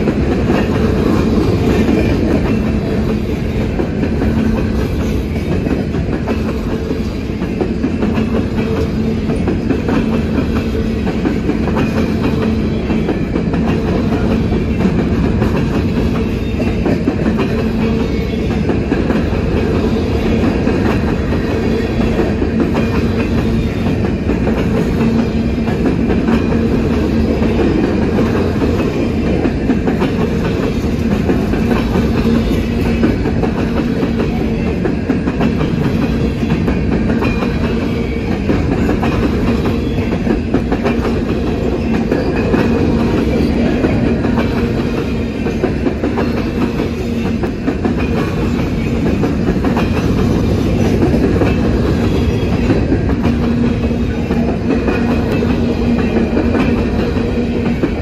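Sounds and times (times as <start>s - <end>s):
freight train rumbling past: 0.0s - 58.0s
steel wheels clattering on rails: 0.0s - 58.0s.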